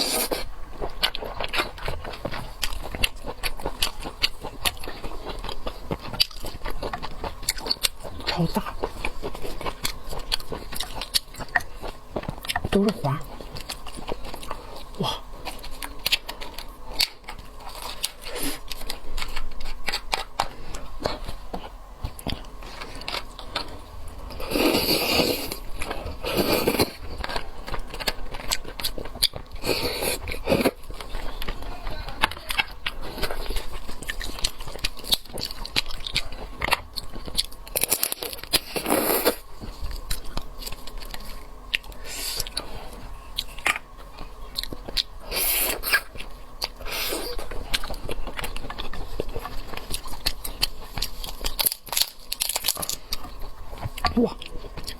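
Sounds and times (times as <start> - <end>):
wet chewing: 0.0 - 54.9.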